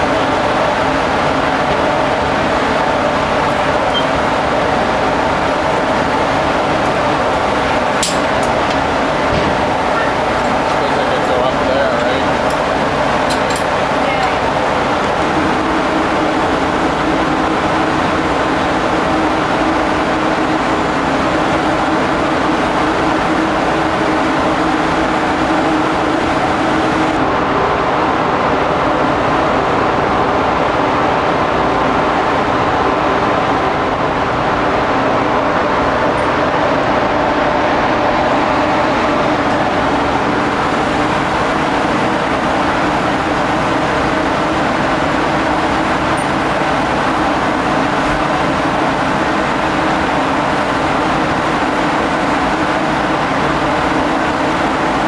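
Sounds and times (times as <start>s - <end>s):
ship machinery drone: 0.0s - 55.0s
steady hum tones: 0.0s - 55.0s.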